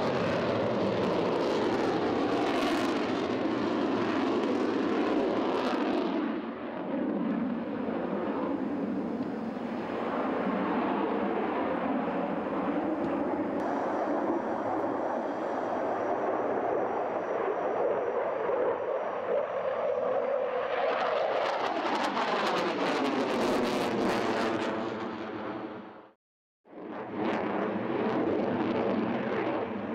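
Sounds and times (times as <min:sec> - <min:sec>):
jet engine noise: 0:00.0 - 0:26.2, 0:26.8 - 0:29.9
jet passing with crackle and whoosh: 0:00.0 - 0:29.9.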